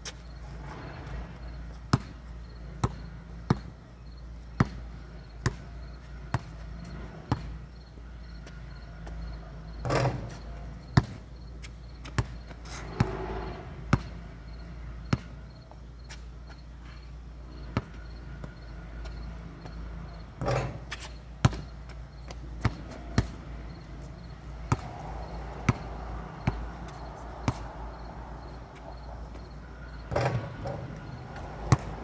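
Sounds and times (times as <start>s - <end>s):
faint insect chirping: 0.1s - 30.2s.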